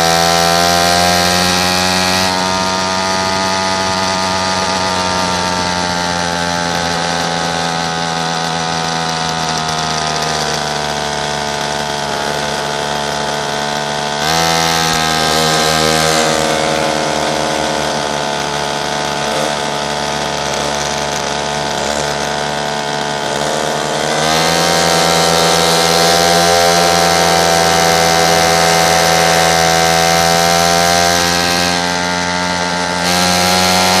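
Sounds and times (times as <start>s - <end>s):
small motorbike engine revving: 0.0s - 34.0s.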